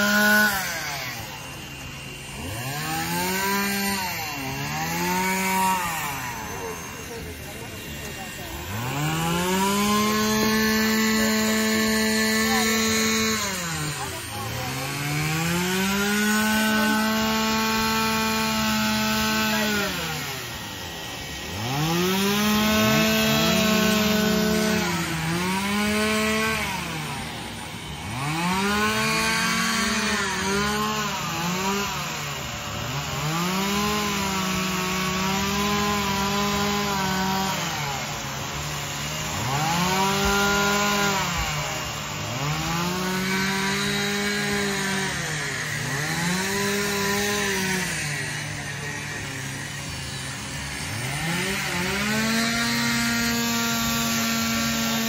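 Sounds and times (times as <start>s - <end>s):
chainsaws revving cutting wood: 0.0s - 55.0s.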